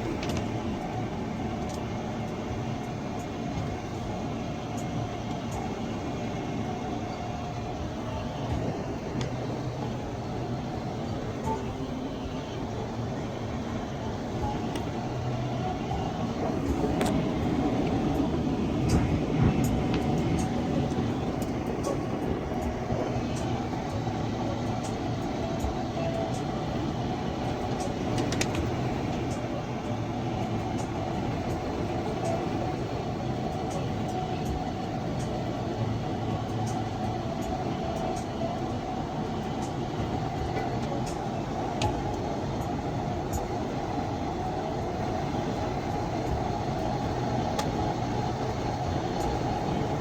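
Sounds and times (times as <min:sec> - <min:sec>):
car road noise at highway speed: 0:00.0 - 0:50.0.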